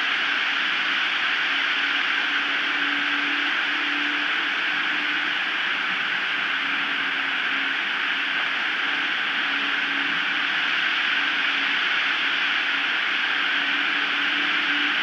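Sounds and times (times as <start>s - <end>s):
high wind hissing on microphone: 0.0s - 15.0s.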